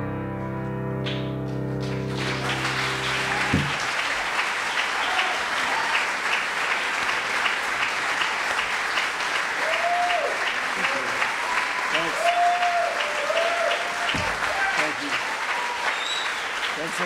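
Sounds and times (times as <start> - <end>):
audience applauding: 1.8 - 17.0
audience cheering: 1.9 - 17.0.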